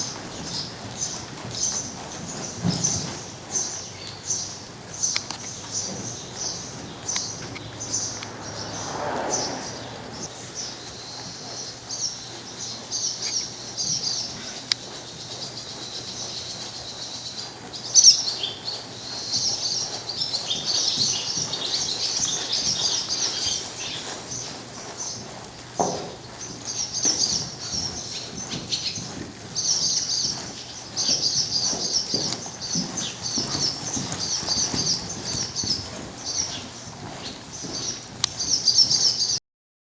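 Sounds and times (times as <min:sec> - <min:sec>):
small birds chirping: 0:00.0 - 0:39.4.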